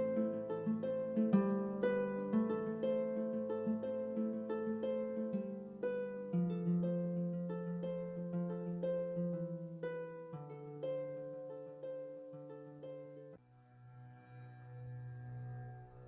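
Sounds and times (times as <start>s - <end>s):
harp plucking: 0.0s - 16.0s.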